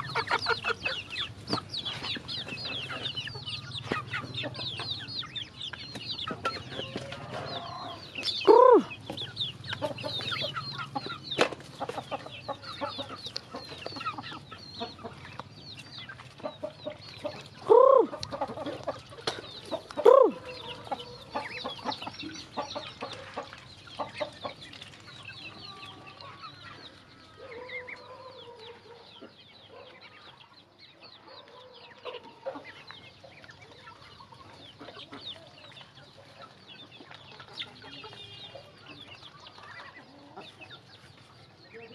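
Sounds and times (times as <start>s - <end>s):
chicken clucking: 0.0s - 41.9s
chicks and ducklings peeping: 0.0s - 41.9s.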